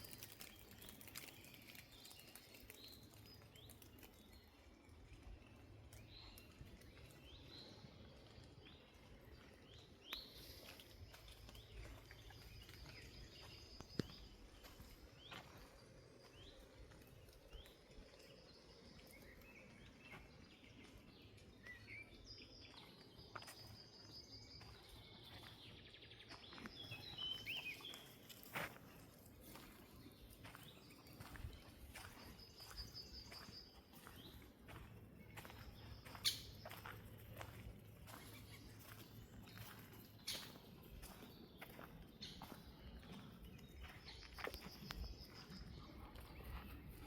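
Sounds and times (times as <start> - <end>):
birds twittering: 0.0 - 47.0
bird chirping: 6.1 - 47.0.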